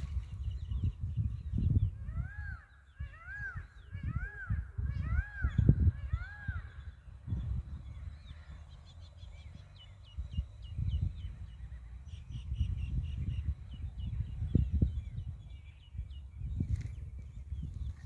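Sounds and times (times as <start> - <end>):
small birds chirping: 0.0 - 4.4, 5.0 - 18.0.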